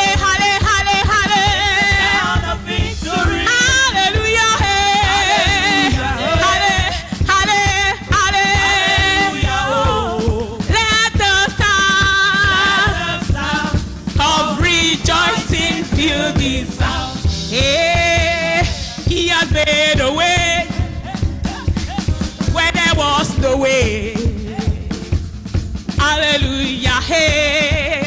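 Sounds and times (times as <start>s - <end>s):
woman singing into microphone: 0.0s - 25.1s, 26.0s - 28.0s
band with steady beat: 0.0s - 28.0s.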